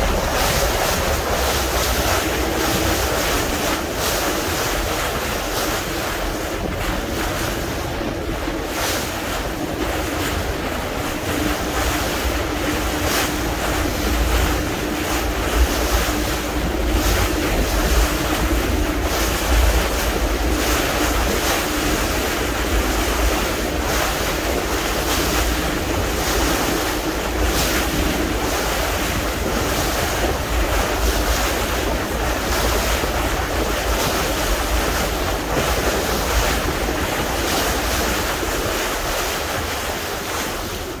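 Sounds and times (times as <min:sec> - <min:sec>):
faint boat engine hum: 0:00.0 - 0:41.0
water slapping boat hull: 0:00.0 - 0:41.0
wind buffeting microphone: 0:00.0 - 0:41.0.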